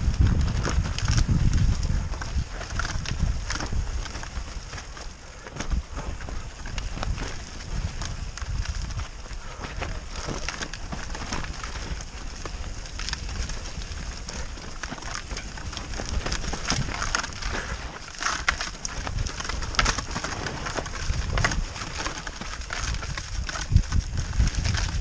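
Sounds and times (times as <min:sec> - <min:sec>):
bike rattling and knocking: 0:00.0 - 0:25.0
tyres rumbling over dirt: 0:00.0 - 0:25.0.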